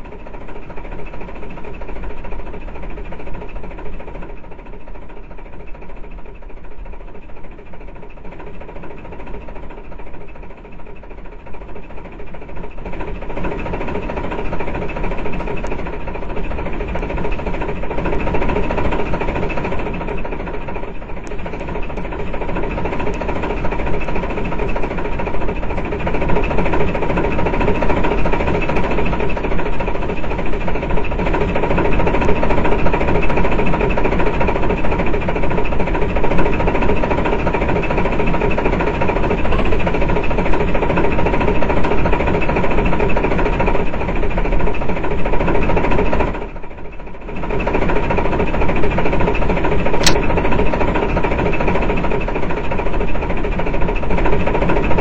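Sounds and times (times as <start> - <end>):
train clattering: 0.1 - 55.0.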